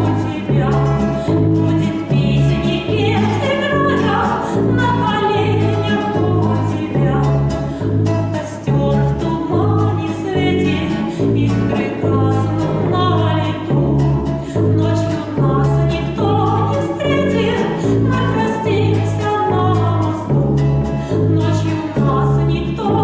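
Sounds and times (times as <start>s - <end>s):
instrumental accompaniment: 0.0s - 23.0s
repeating bass line: 0.0s - 23.0s
woman singing a slow song: 0.0s - 23.0s.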